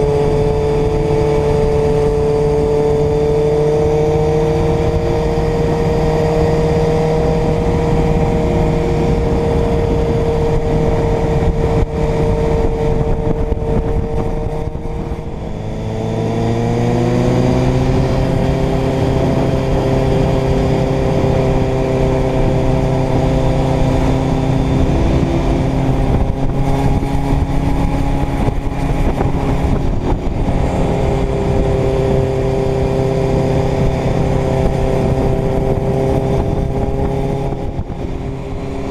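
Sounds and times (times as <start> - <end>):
motorcycle engine running: 0.0 - 38.9
wind rushing: 0.0 - 38.9.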